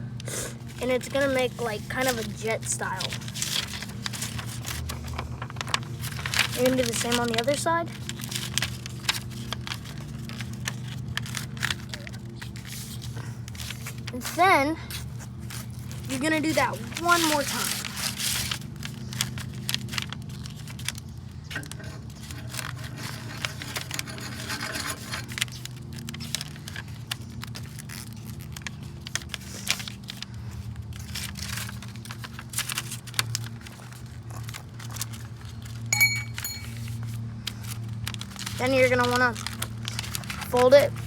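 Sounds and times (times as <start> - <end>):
steady low hum: 0.0 - 41.0
paper rustling and crinkling: 0.6 - 41.0.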